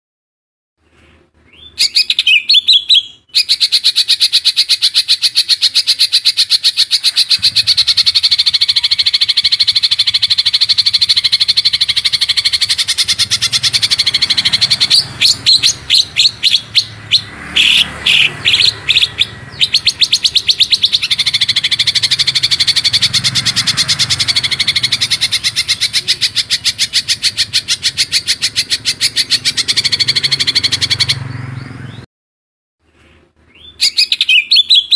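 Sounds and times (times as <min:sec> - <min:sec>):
loud bird chirps: 0:00.9 - 0:32.1, 0:32.8 - 0:34.9
songbird singing fast trill: 0:01.5 - 0:32.0, 0:33.5 - 0:34.9.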